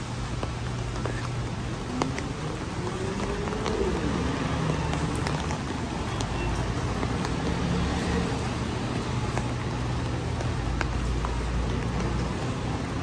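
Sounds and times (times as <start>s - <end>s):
steady rain hiss: 0.0s - 13.0s
vehicles passing on wet road: 0.0s - 13.0s.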